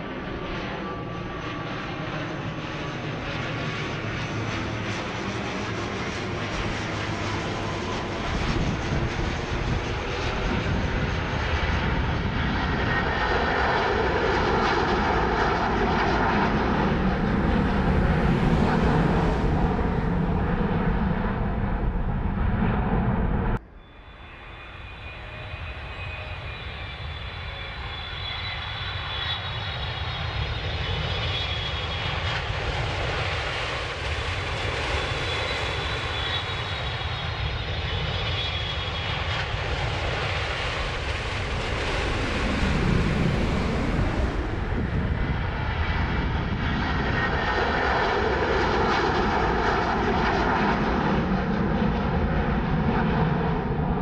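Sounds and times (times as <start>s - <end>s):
aircraft engines roaring: 0.0s - 54.0s
aircraft engines rumbling with whine: 0.0s - 54.0s.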